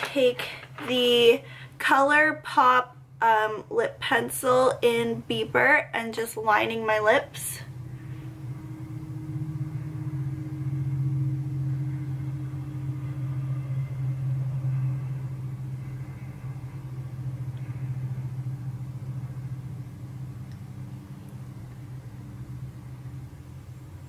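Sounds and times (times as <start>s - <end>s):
low mechanical drone: 0.0s - 24.0s.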